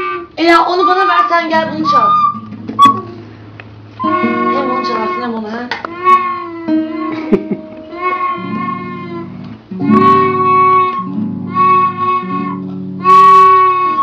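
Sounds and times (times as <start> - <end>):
child playing recorder: 0.0 - 3.2, 4.0 - 14.0
plucked guitar strings ringing: 0.8 - 14.0.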